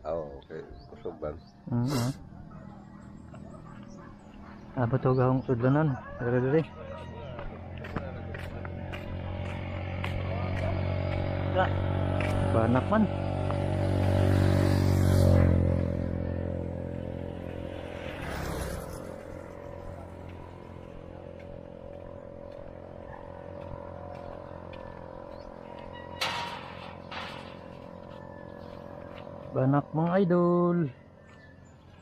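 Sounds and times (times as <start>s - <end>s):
vehicle engine running: 2.4s - 32.0s.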